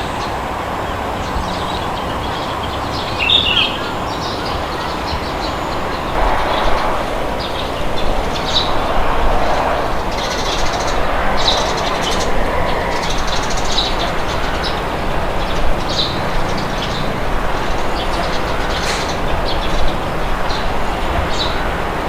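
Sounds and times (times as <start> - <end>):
steady wind: 0.0 - 22.0.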